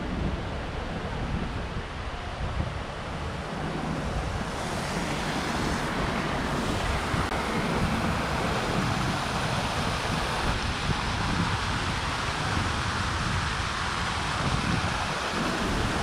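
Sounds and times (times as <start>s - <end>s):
passing traffic hiss: 0.0s - 16.0s.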